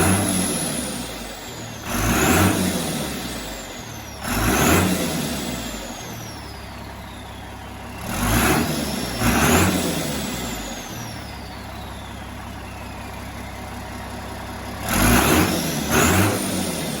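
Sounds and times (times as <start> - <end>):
turbo whistle: 0.0 - 16.9
diesel engine idling: 0.0 - 17.0.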